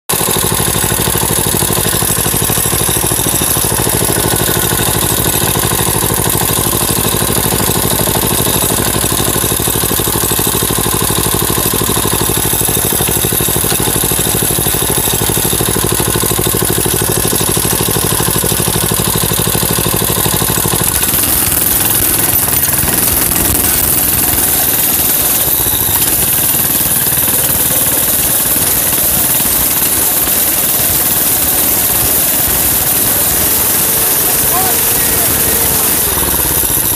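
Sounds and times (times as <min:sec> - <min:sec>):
small bike engine idling: 0:00.1 - 0:36.9.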